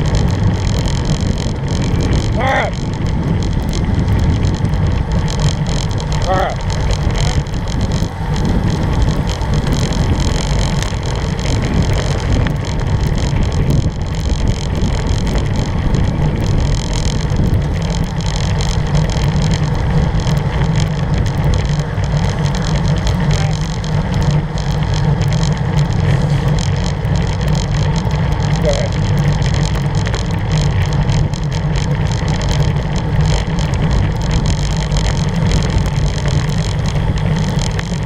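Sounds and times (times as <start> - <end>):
bike tyres rumbling on asphalt: 0.0 - 38.0
wind rush: 0.0 - 38.0.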